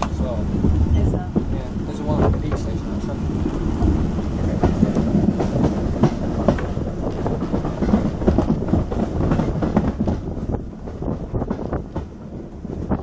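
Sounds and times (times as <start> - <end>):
train carriage rumble: 0.0 - 13.0
wheels clicking over rail joints: 0.0 - 13.0.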